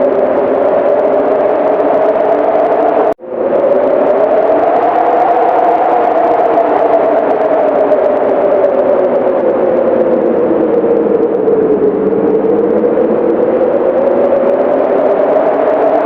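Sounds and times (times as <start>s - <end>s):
wind howling and whistling: 0.0s - 16.0s.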